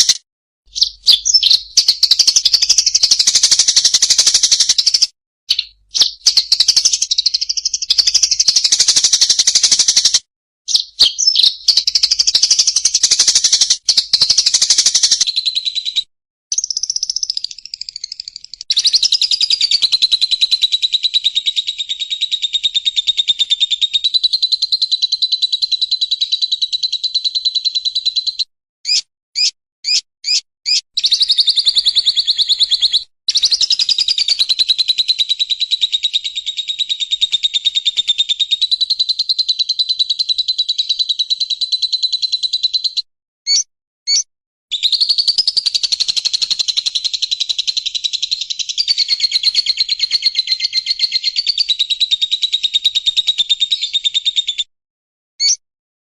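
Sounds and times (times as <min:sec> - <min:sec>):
small songbird singing: 0:00.0 - 0:54.7, 0:55.4 - 0:55.6.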